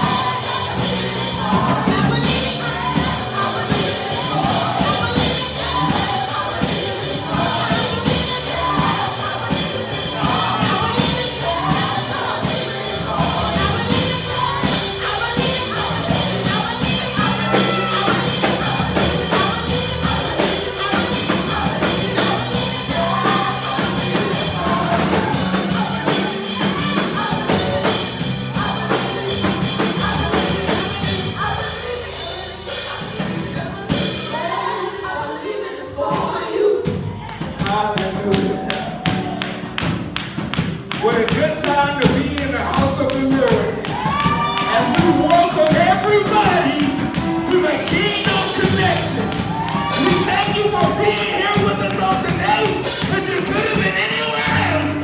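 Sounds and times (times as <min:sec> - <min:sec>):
person singing: 0:00.0 - 0:39.7, 0:40.9 - 0:55.0
drums: 0:00.0 - 0:55.0
worship band playing: 0:00.0 - 0:55.0.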